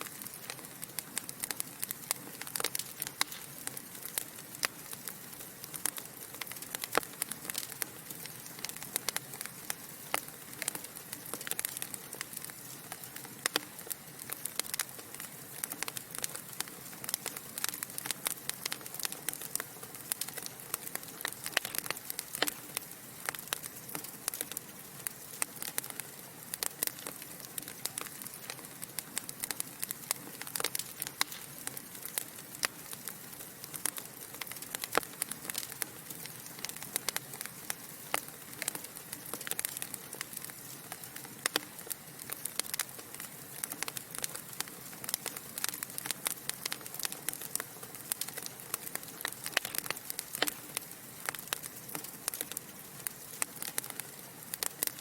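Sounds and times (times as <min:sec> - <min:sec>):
soft fire hiss: 0:00.0 - 0:55.0
wood fire popping and snapping: 0:00.0 - 0:55.0.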